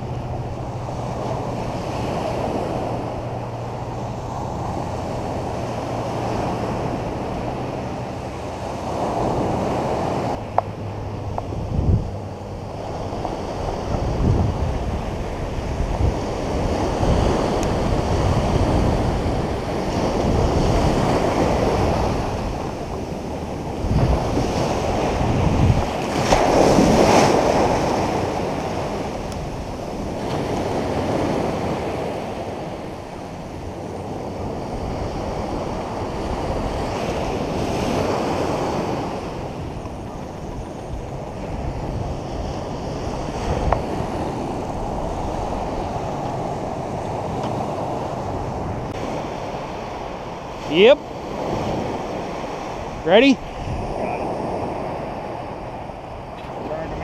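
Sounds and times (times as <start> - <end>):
ocean surf breaking on beach: 0.0 - 57.0
wind buffeting microphone: 0.0 - 57.0.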